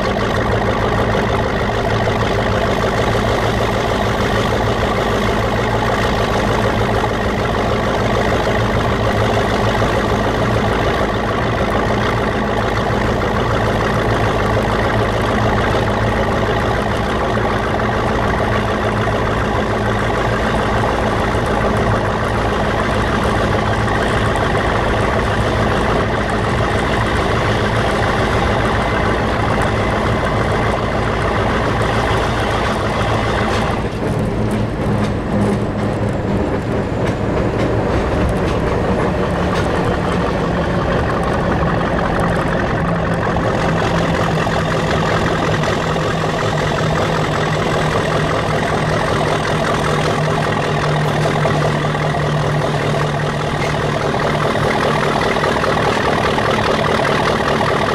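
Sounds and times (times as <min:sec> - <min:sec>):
diesel locomotive engine burbling: 0:00.0 - 0:57.9
turbocharger whine: 0:00.0 - 0:57.9.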